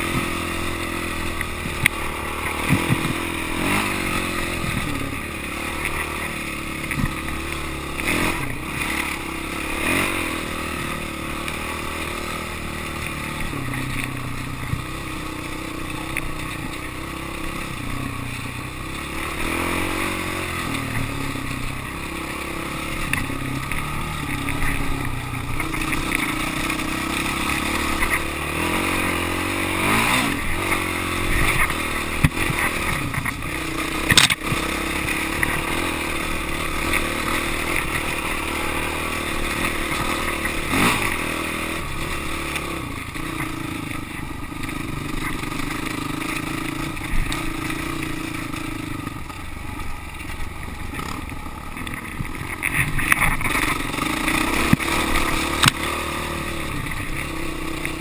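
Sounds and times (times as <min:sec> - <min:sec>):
motorcycle engine revving: 0:00.0 - 0:58.0
motorcycle rattling over rough ground: 0:00.0 - 0:58.0.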